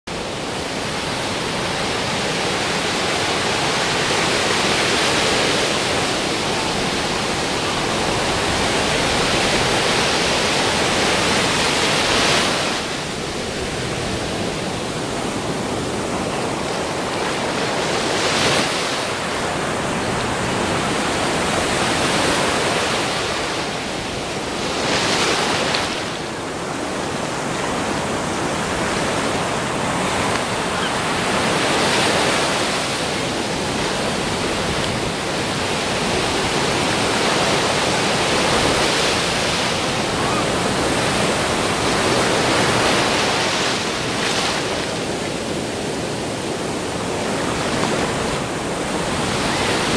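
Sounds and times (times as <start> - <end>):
rush of surf: 0.0 - 49.9
ocean wave crashing: 0.4 - 49.9.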